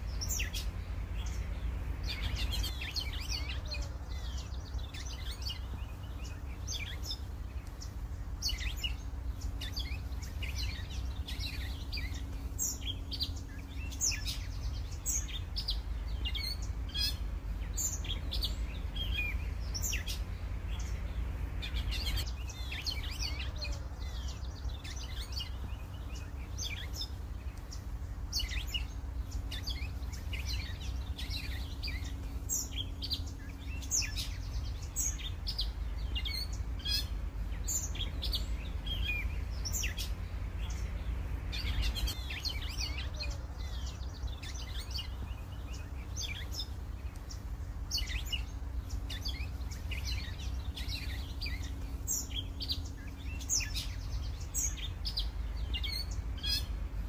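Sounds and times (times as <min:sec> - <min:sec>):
faint hum: 0:00.0 - 0:57.0
songbirds chirping and trilling: 0:00.0 - 0:57.0
steady low rumble: 0:00.0 - 0:57.0.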